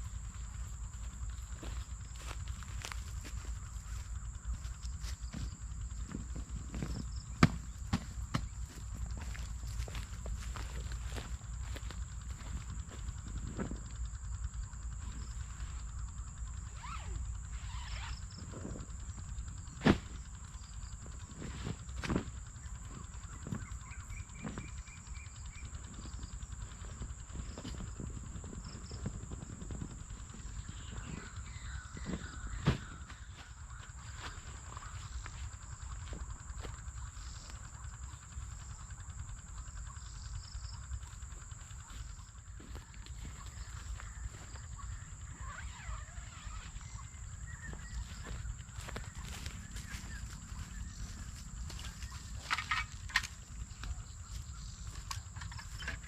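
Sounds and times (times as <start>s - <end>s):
low even rumble: 0.0s - 55.8s
insects trilling: 0.0s - 56.0s.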